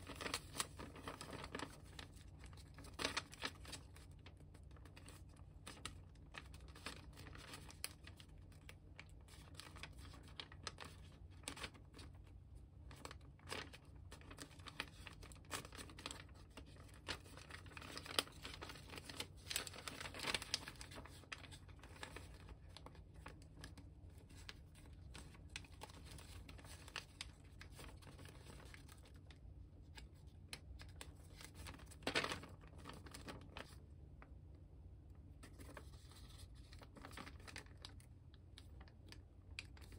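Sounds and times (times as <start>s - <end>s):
paper crinkling and rustling: 0.0s - 34.4s, 35.2s - 39.9s.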